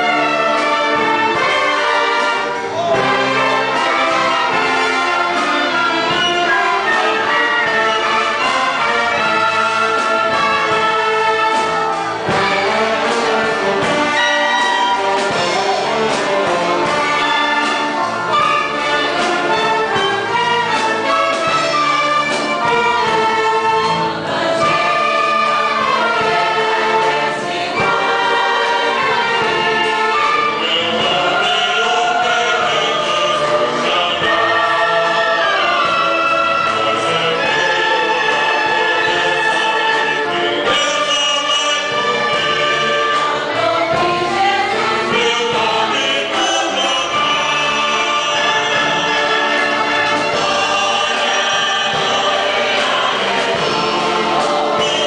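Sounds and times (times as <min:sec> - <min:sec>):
choir singing a hymn: 0:00.0 - 0:55.0
wind band playing: 0:00.0 - 0:55.0.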